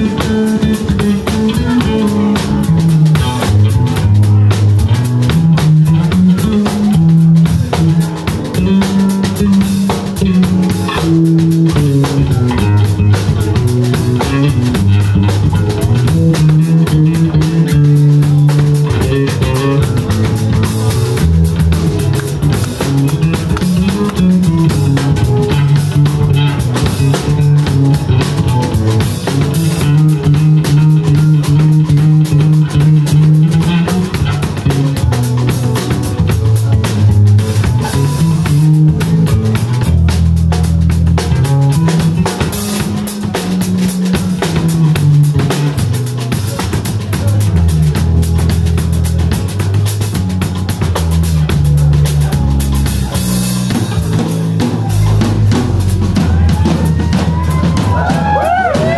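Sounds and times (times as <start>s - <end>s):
bass line: 0.0s - 58.9s
drum kit: 0.0s - 58.9s
electric guitar: 0.0s - 58.9s
keyboard: 0.0s - 58.9s.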